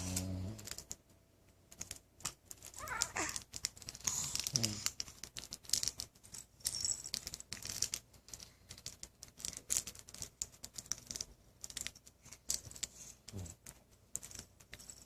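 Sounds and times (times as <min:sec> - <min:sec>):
small objects rustling and clicking: 0:00.0 - 0:15.0.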